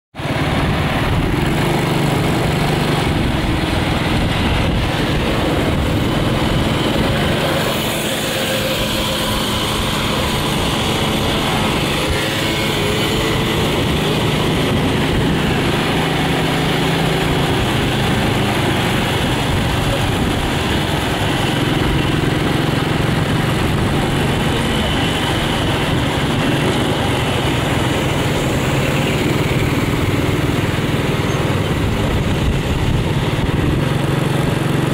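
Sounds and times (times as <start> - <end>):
city traffic: 0.1 - 34.9
dense rushing noise: 0.1 - 34.9
motorbike engine running: 0.2 - 34.9.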